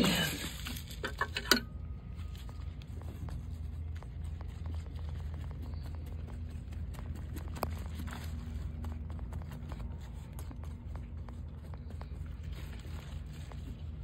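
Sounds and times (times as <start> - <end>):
hand cultivator scratching soil: 2.2 - 14.0.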